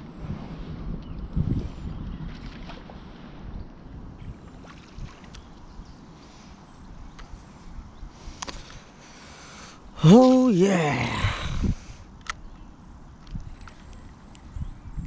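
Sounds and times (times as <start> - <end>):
wind buffeting microphone: 0.0 - 8.9, 11.1 - 15.0.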